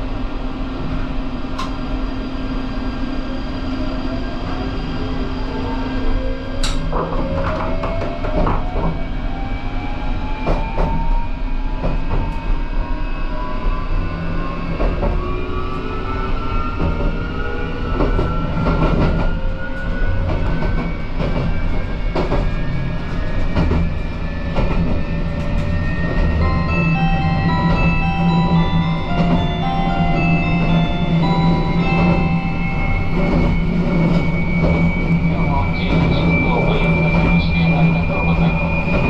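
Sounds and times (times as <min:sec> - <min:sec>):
train running rumble: 0:00.0 - 0:09.5, 0:14.1 - 0:39.0.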